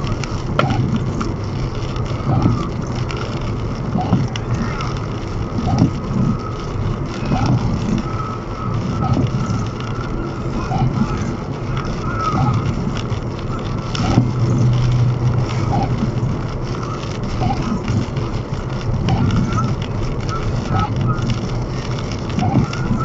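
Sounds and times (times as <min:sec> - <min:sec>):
tyre and road noise: 0:00.0 - 0:23.0.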